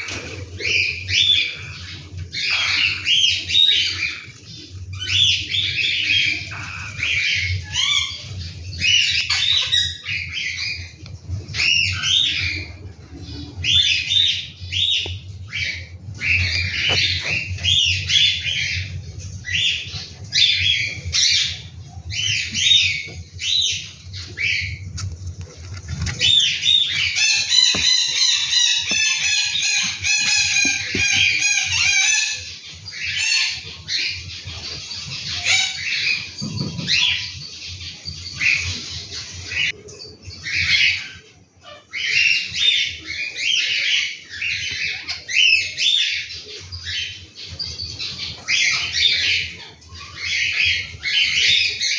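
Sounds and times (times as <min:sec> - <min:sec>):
cockatiels chirping and squawking: 0:00.0 - 0:51.9.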